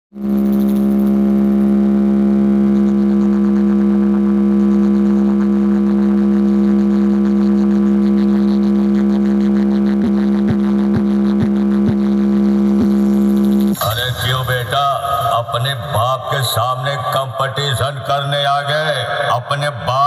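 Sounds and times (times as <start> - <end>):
low electronic drone: 0.2 - 20.0.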